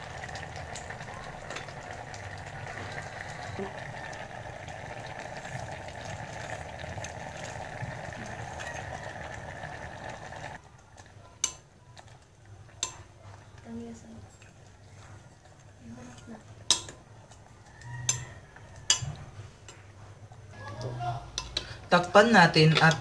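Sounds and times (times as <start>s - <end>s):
jam bubbling in a pot: 0.0s - 23.0s.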